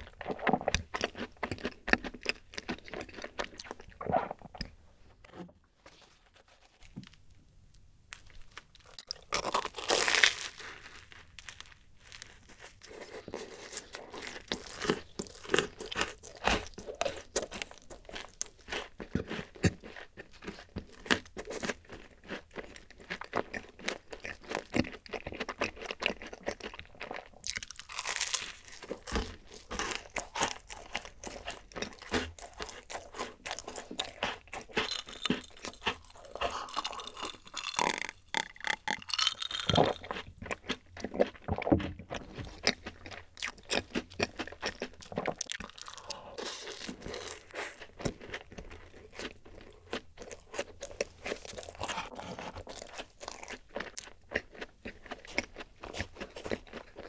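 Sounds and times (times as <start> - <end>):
chewing and crunching cookies: 0.0 - 5.3, 5.9 - 57.0.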